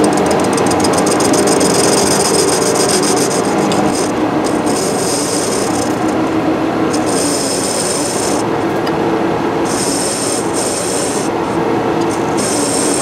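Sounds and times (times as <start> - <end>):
high hiss of tool cutting: 0.0 - 6.2, 6.9 - 8.4, 9.6 - 11.4, 12.0 - 13.0
lathe machine hum: 0.0 - 13.0.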